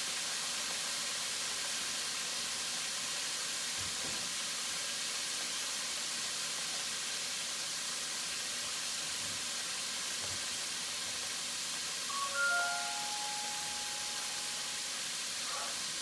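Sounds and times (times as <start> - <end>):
chicken wings sizzling in oil: 0.0 - 16.0.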